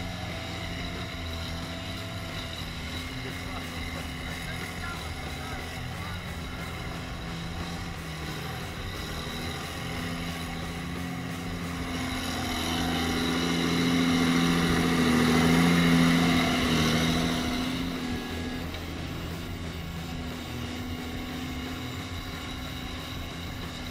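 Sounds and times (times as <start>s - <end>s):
tractor diesel engine under load: 0.0s - 23.9s.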